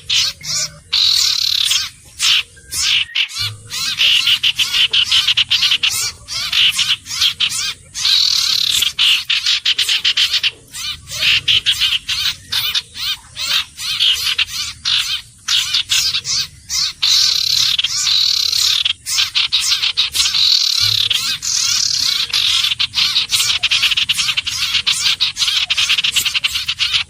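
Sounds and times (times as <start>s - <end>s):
bird chattering calls: 0.0s - 27.0s.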